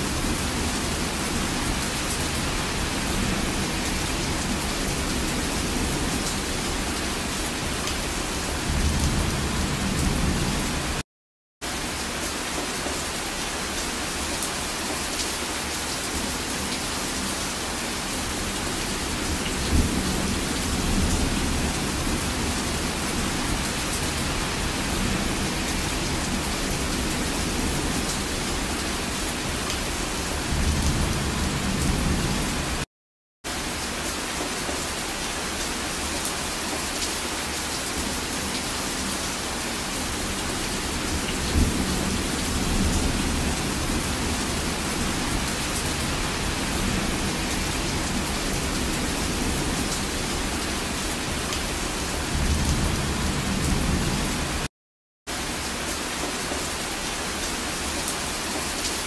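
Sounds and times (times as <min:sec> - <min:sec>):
dense rain falling: 0:00.0 - 0:11.0, 0:11.6 - 0:32.9, 0:33.5 - 0:54.7, 0:55.3 - 0:59.0.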